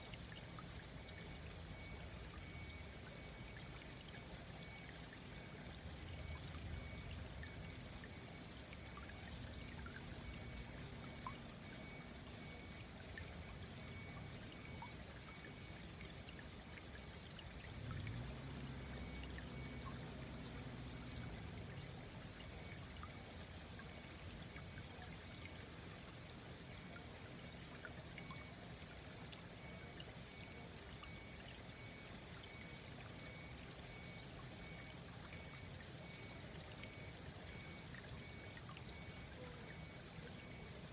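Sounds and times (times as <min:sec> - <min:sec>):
stream babbling and trickling: 0:00.0 - 0:40.9.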